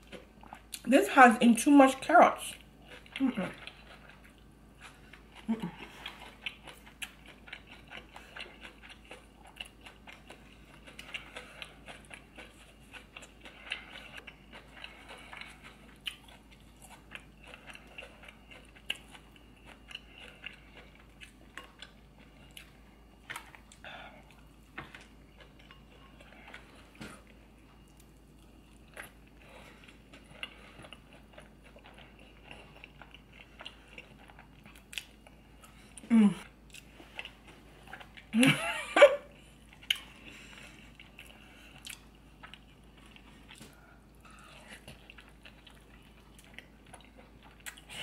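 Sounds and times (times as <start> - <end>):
chewing and wet mouth sounds: 0.0 - 1.2, 1.8 - 38.6, 39.3 - 48.0.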